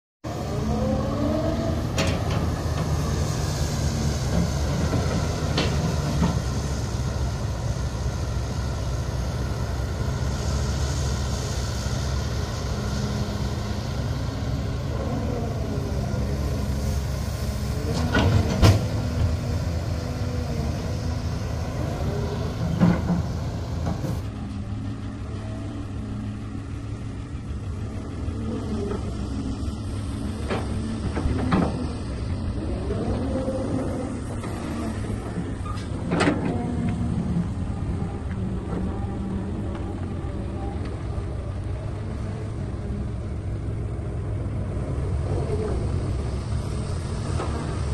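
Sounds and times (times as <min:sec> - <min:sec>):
excavator diesel engine running: 0:00.3 - 0:47.9.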